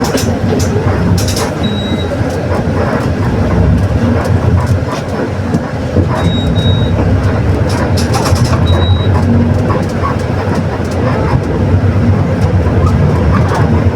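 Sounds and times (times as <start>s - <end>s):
body rattles and clicks: 0.0s - 13.9s
diesel bus engine rumble: 0.0s - 13.9s
growling differential: 0.0s - 13.9s.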